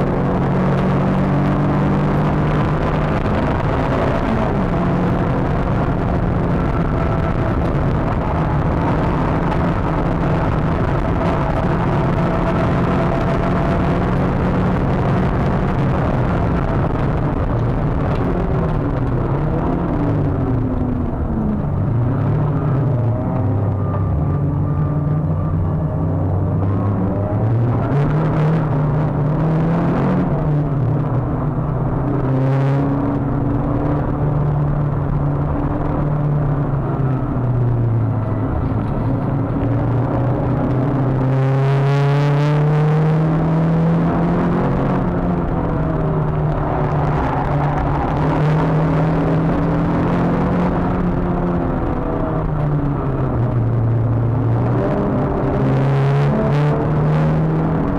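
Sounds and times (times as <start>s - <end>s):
car engine running hard: 0.0s - 57.9s
road and wind noise: 0.0s - 57.9s.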